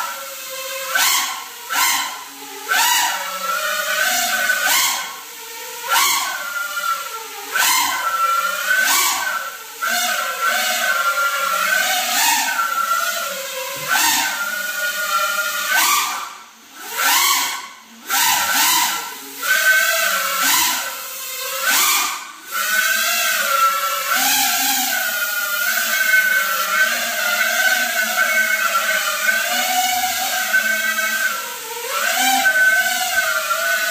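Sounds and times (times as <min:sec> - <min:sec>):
quadcopter motors whining: 0:00.0 - 0:33.9.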